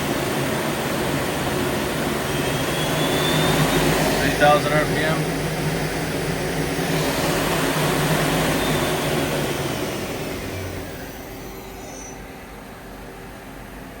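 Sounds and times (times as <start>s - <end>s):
lathe spindle whirring down: 0.0s - 13.6s
machine hum: 0.0s - 14.0s.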